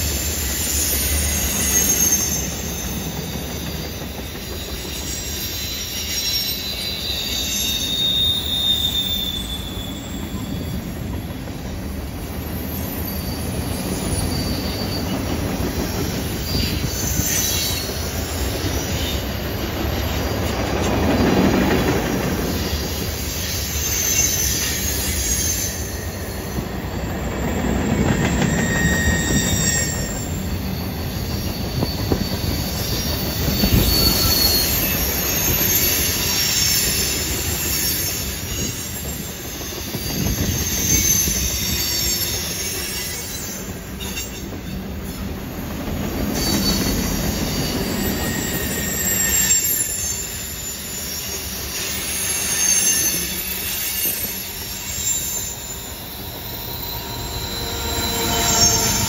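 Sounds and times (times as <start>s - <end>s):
high-pitched flange squeals: 0.0s - 59.0s
steel wheels rumbling on rail: 0.0s - 59.0s.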